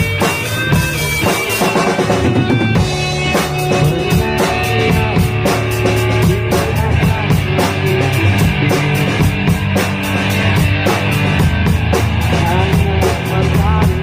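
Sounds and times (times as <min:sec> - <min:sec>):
drum kit beat: 0:00.0 - 0:14.0
rock band playing: 0:00.0 - 0:14.0.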